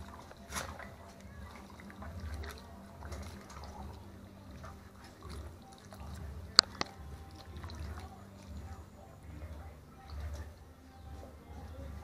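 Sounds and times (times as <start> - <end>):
wet squelching and sloshing: 0.0 - 12.0.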